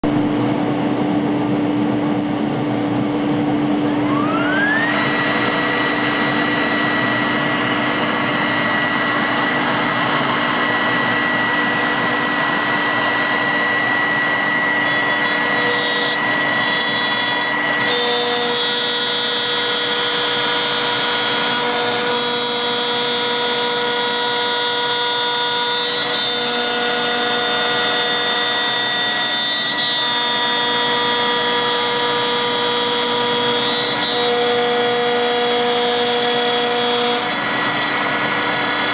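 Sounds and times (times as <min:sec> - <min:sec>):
router spindle whining: 0:03.7 - 0:38.9.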